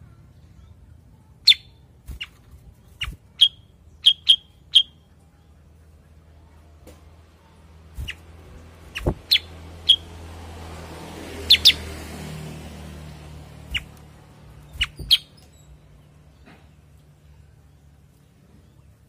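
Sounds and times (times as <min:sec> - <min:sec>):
bird chirping: 0:00.0 - 0:06.8, 0:07.4 - 0:10.3, 0:11.3 - 0:12.0, 0:13.0 - 0:19.0.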